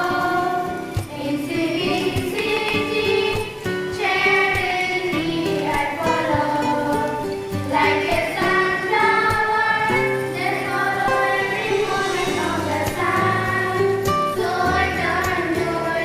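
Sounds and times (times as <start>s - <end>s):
children singing in chorus: 0.0s - 16.0s.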